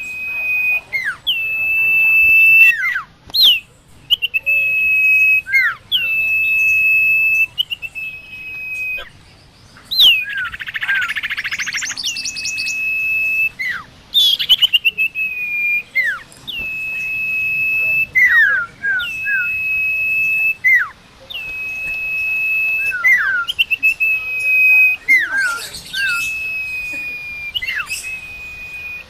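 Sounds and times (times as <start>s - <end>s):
bird whistling song: 0.0s - 29.0s.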